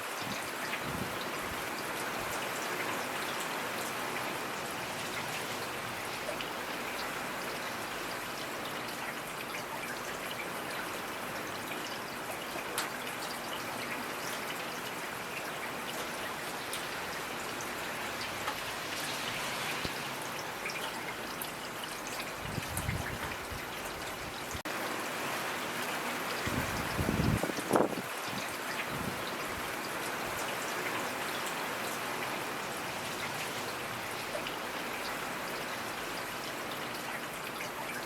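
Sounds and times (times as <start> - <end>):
steady rain hiss: 0.0 - 38.0.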